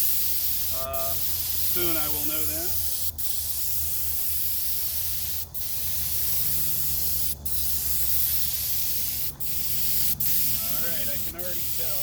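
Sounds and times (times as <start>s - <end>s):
paint spray gun hissing: 0.0s - 12.0s.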